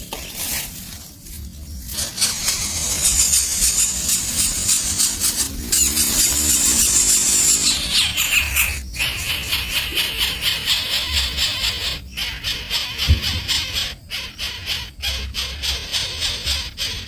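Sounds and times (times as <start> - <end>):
nestling birds begging calls: 1.0 - 17.0.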